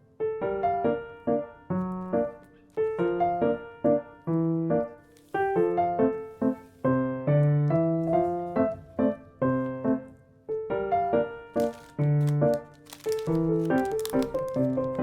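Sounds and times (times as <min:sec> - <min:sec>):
gentle solo piano tune: 0:00.0 - 0:15.0.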